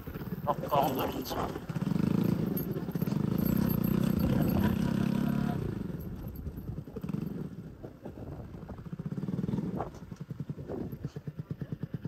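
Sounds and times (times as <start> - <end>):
loud motorcycle engine revving: 0.0 - 7.8, 8.6 - 12.0.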